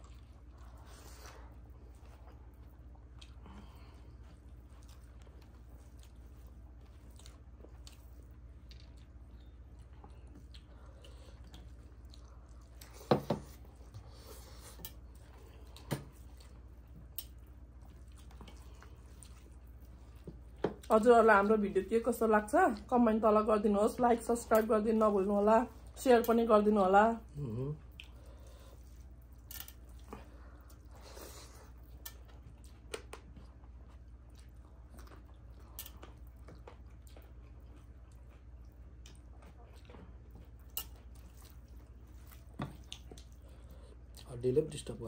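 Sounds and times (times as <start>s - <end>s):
chewing: 0.0s - 21.0s, 27.3s - 44.4s
hands squishing wet food: 0.0s - 21.4s, 27.8s - 44.6s.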